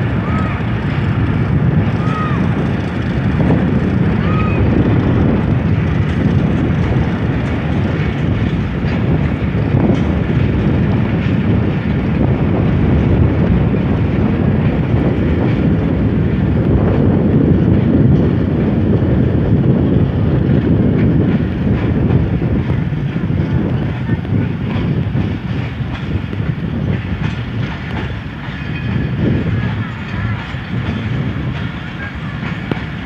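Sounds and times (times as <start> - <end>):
rail clicks: 0.0 - 33.0
train wheels rumbling on rails: 0.0 - 33.0.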